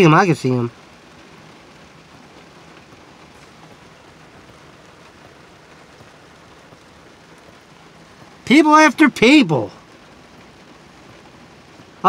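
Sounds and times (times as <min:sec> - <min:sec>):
heavy rain on truck roof: 0:00.0 - 0:12.0.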